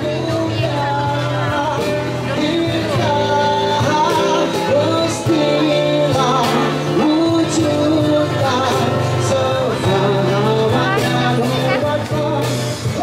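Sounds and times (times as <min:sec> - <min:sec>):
guitar: 0:00.0 - 0:13.0
man singing into microphone: 0:00.0 - 0:13.0
steady bass: 0:00.0 - 0:13.0.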